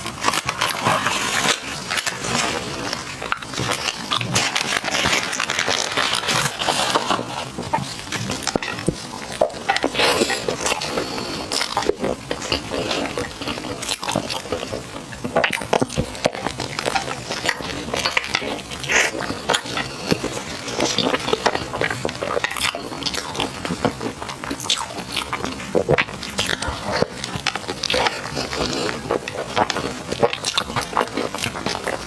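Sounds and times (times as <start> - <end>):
wet crackly chewing clicks: 0.0 - 32.0.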